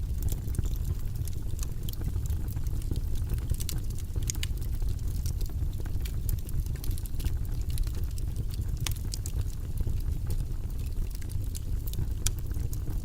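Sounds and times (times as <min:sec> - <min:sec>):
fire crackling and popping: 0:00.0 - 0:13.0
low rumble of flame: 0:00.0 - 0:13.0.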